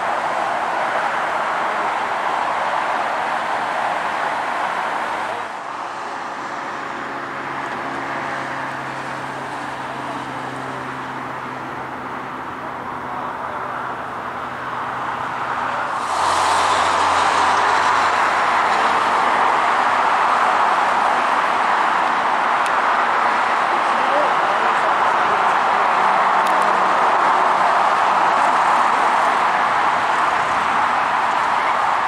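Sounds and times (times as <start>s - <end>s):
steady rushing noise: 0.0s - 32.0s.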